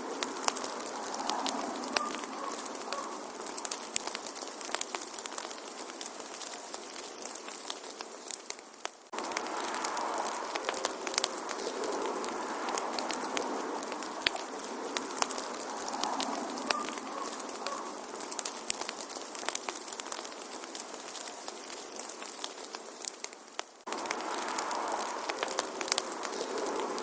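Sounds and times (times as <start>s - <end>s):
fire popping and snapping: 0.0s - 27.0s
wood fire crackling: 0.0s - 27.0s.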